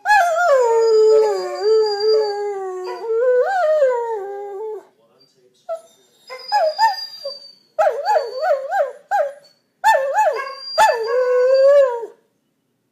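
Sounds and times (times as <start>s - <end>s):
dog howling: 0.0s - 4.9s, 6.3s - 12.2s.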